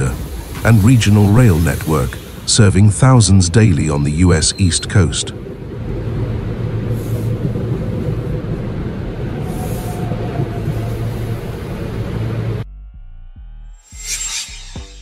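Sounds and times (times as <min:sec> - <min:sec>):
train wheels rumbling on rails: 0:00.0 - 0:12.6.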